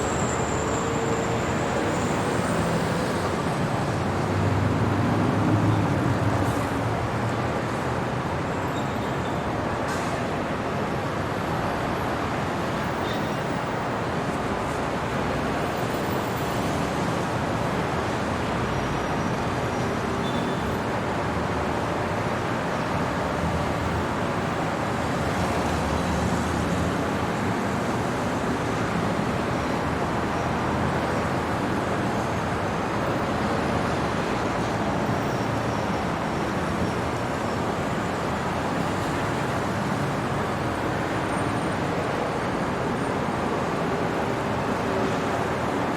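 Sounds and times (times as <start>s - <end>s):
passing road vehicles: 0.0s - 45.9s.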